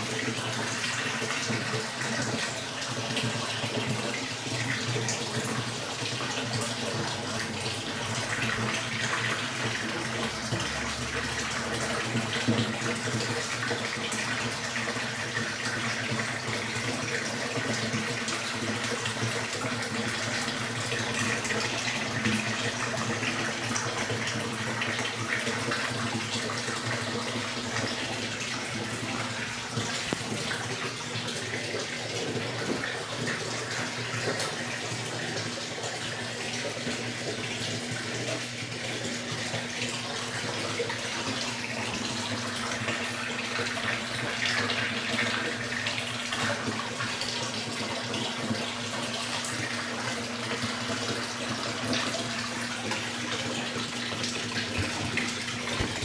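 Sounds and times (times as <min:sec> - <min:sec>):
washing machine low hum: 0:00.0 - 0:56.0
water running into washing machine: 0:00.0 - 0:56.0.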